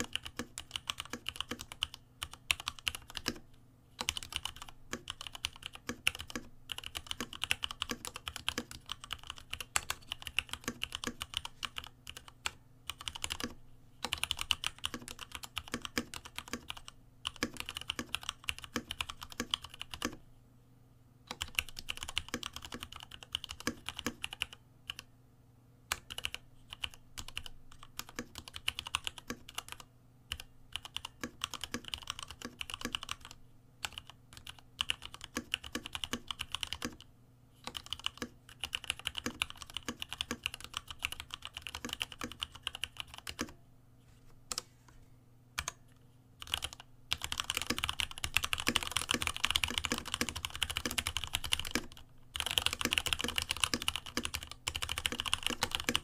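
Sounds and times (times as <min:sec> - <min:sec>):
mechanical keyboard typing: 0:00.0 - 0:03.4, 0:04.0 - 0:20.2, 0:21.3 - 0:25.1, 0:25.9 - 0:43.6, 0:45.6 - 0:45.8, 0:46.4 - 0:56.0.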